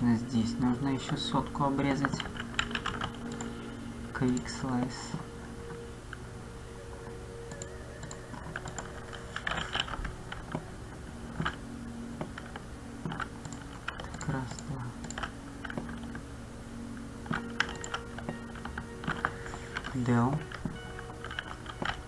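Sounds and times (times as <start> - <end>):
low electrical hum: 0.0 - 22.0
computer keyboard typing: 0.1 - 6.2, 6.9 - 16.3, 17.0 - 22.0.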